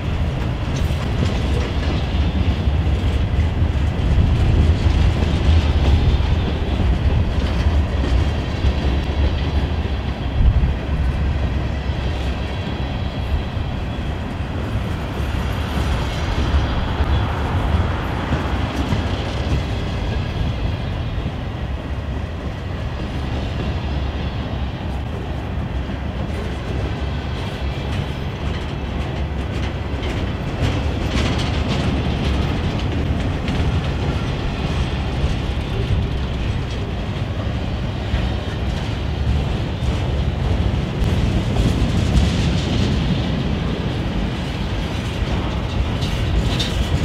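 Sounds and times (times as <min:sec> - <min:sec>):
train wheels rumbling on rails: 0:00.0 - 0:47.0
wheels clicking over rail joints: 0:00.0 - 0:47.0.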